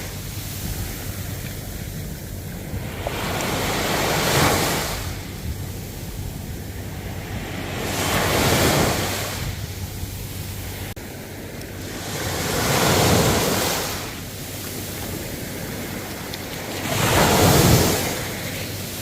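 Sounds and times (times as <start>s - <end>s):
ocean waves breaking: 0.0s - 19.0s
wind rumble on microphone: 0.0s - 19.0s.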